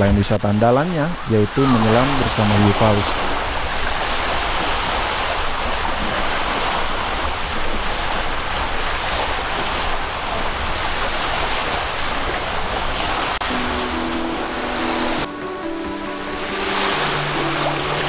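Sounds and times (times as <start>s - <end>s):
sea surf rushing: 0.0s - 18.0s.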